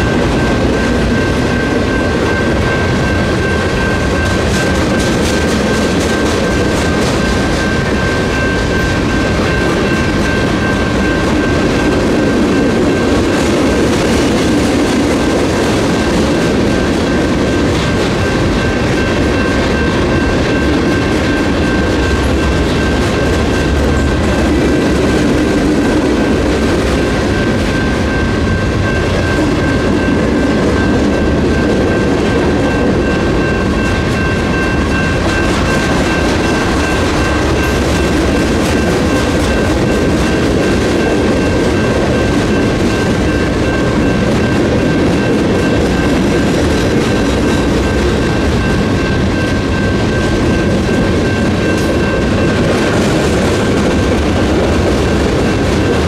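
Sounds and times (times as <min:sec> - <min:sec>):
crossing bell ringing: 0:00.0 - 0:56.0
train wheels rumbling over rails: 0:00.0 - 0:56.0.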